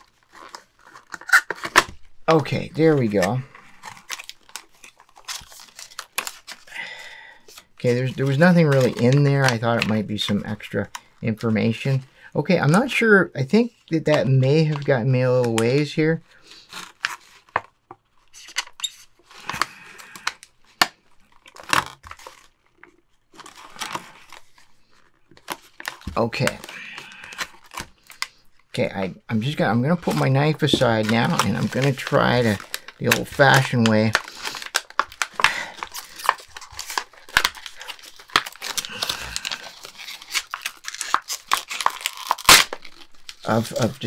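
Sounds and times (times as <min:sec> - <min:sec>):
plastic packaging crackling: 0:00.0 - 0:12.1, 0:13.8 - 0:44.0.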